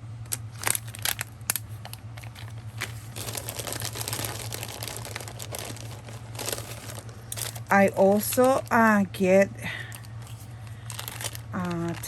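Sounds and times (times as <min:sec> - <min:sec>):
plastic crinkling: 0:00.3 - 0:12.0.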